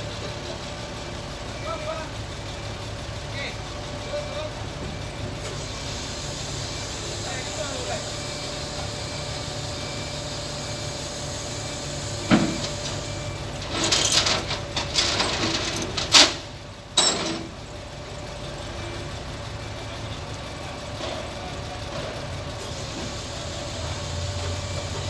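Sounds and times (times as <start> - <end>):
heavy engine running: 0.0 - 25.0.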